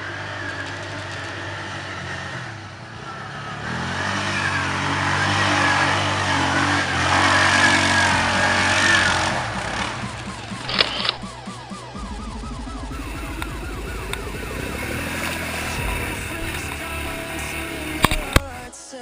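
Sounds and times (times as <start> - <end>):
atv engine revving: 0.0 - 18.7.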